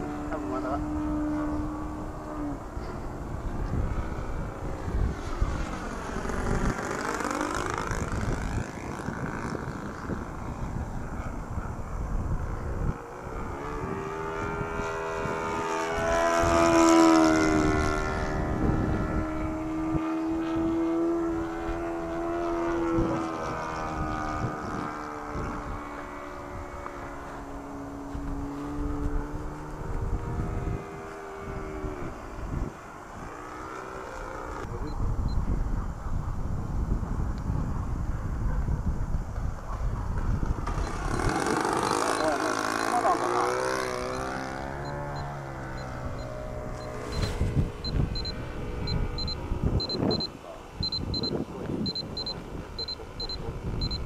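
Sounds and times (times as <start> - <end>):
model airplane engine passing: 0.0 - 54.0
wind rumble on microphone: 0.0 - 54.0.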